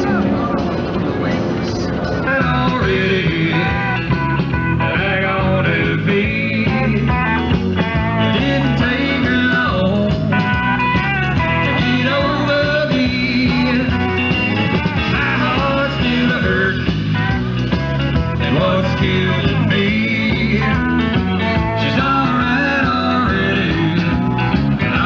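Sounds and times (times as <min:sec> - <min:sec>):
rock music with singing: 0:00.0 - 0:25.0
steady bass line: 0:00.0 - 0:25.0.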